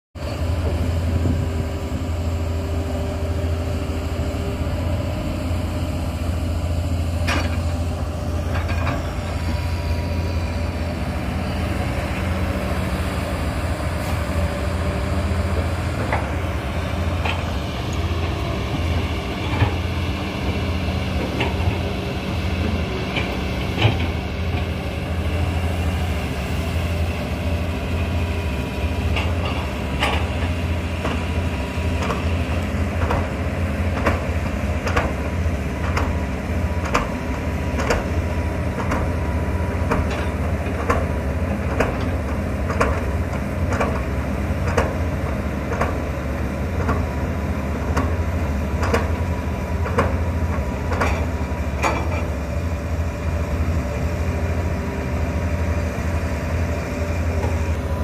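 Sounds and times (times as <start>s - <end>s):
excavator diesel engines droning: 0.2s - 58.0s.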